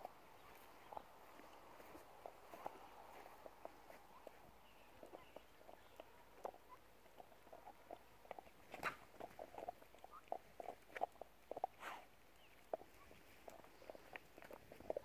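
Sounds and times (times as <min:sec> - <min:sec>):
dog chewing on bone: 0:00.9 - 0:11.8, 0:12.5 - 0:15.0.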